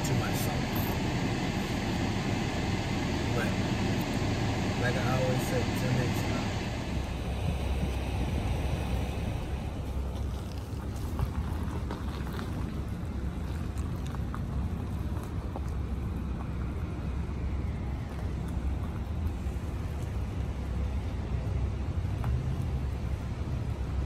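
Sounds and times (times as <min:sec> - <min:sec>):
car rolling rumble inside cabin: 0:00.0 - 0:24.0.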